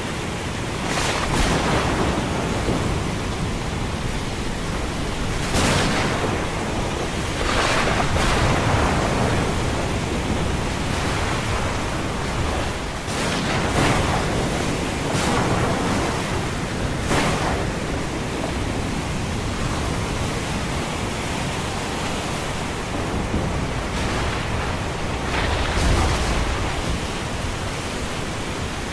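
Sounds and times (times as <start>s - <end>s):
ocean surf: 0.0s - 28.9s
rain: 0.0s - 28.9s.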